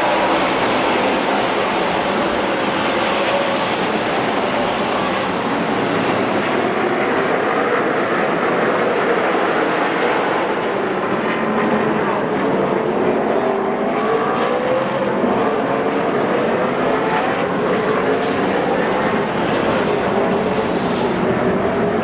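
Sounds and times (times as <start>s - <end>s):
race truck engines droning: 0.0s - 22.0s.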